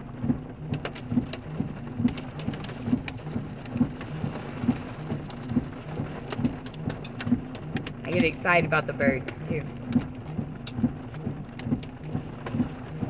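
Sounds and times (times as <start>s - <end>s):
low pulsing hum: 0.0s - 13.0s
rain and hail on car roof: 0.0s - 13.0s.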